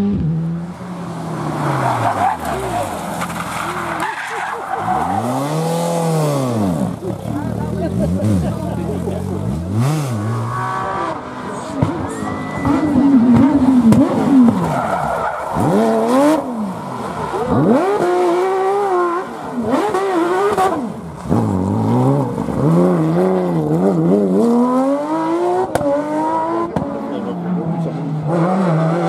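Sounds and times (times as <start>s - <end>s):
car engine revving hard: 4.7s - 12.0s, 12.6s - 29.0s.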